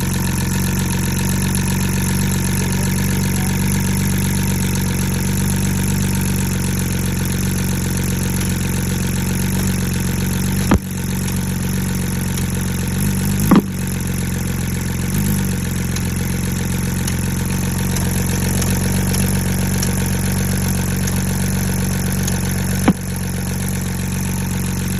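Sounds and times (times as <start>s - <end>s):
car engine idling with misfire: 0.0s - 24.9s.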